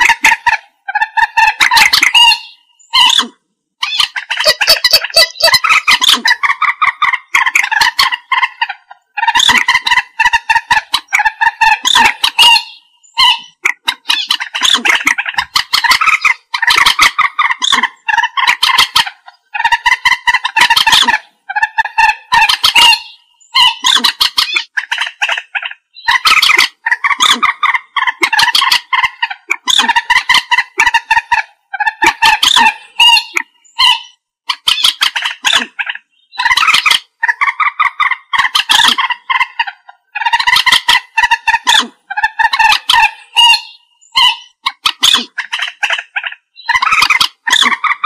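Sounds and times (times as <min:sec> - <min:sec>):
moorhen stuttering clucks: 0:00.0 - 0:48.0.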